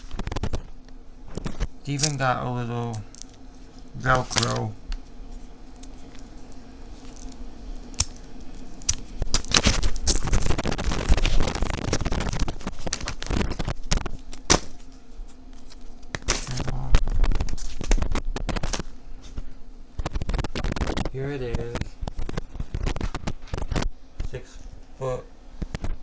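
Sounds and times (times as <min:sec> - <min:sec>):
cable packaging scratching: 0:00.0 - 0:19.4, 0:20.0 - 0:23.9.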